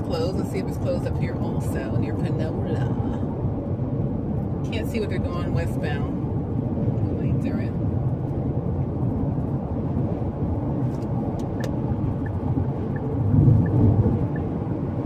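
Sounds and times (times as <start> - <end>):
tyre and engine rumble in car: 0.0 - 15.0.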